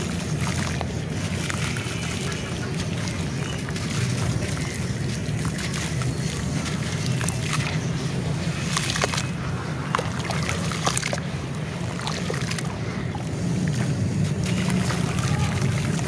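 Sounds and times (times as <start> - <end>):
hands splashing in water: 0.0 - 16.0.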